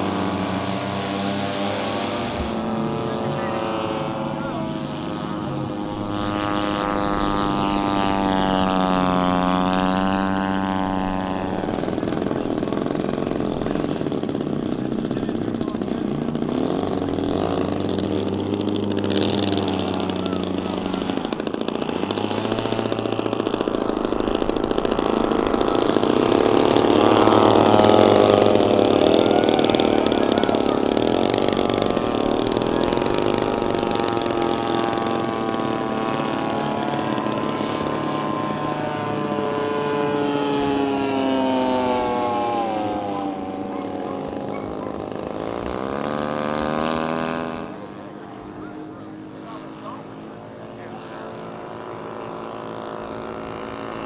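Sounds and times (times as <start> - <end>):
model plane engine: 0.0 - 54.0.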